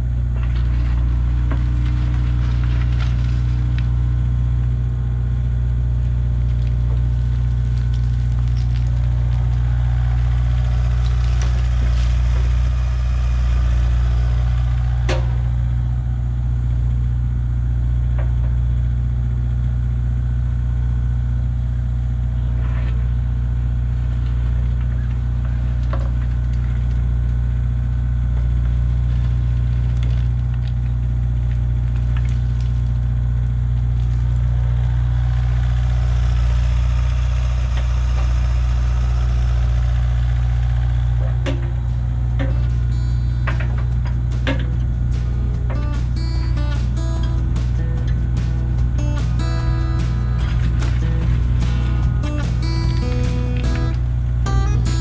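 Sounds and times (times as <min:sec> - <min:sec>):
excavator engine running: 0:00.0 - 0:32.1, 0:33.0 - 0:55.0.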